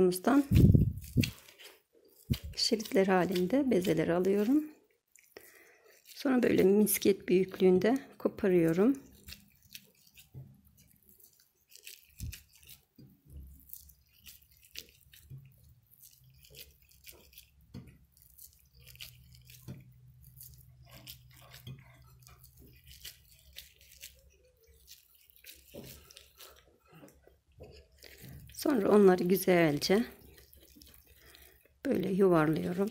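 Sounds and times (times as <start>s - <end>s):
soft clicks of pinching dough: 0.5s - 32.9s.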